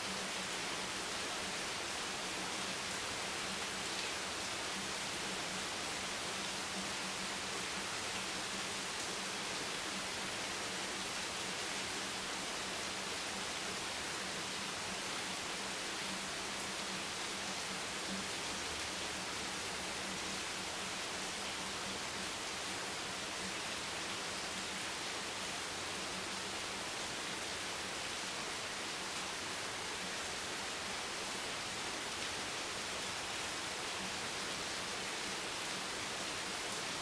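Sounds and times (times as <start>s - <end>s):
steady rain hiss: 0.0s - 37.0s.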